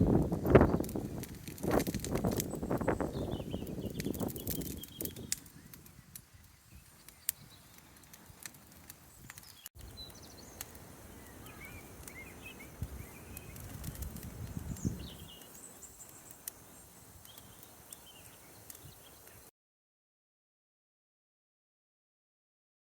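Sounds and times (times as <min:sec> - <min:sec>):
small birds chirping: 0:00.0 - 0:19.5.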